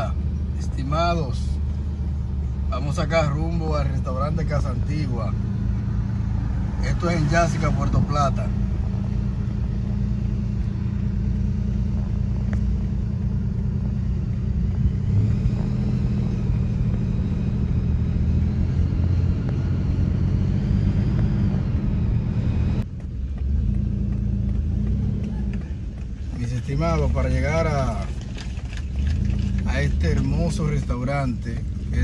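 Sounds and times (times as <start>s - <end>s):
vehicle rumbling on road: 0.0s - 32.0s.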